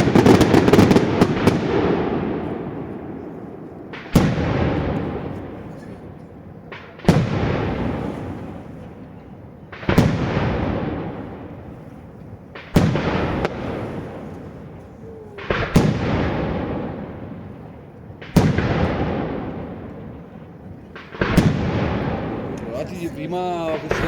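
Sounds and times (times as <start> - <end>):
fireworks bangs echoing: 0.0 - 24.0.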